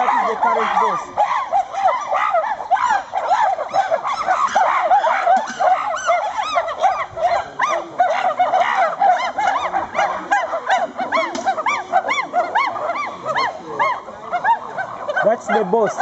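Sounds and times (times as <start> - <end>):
chorus of animal calls: 0.0 - 16.0.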